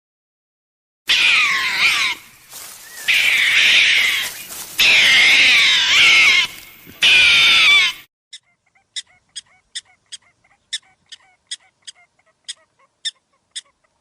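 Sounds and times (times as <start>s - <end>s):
animal crying out: 1.1s - 13.8s.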